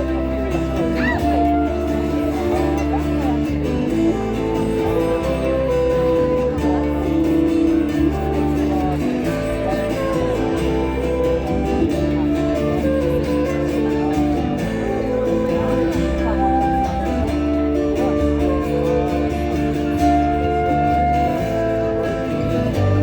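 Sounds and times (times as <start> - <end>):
bass notes: 0.0 - 23.0
strummed guitar: 0.0 - 23.0.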